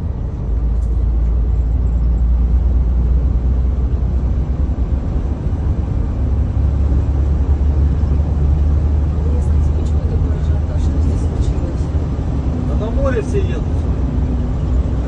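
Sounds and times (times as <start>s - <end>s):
road vehicles rumbling: 0.0s - 15.0s.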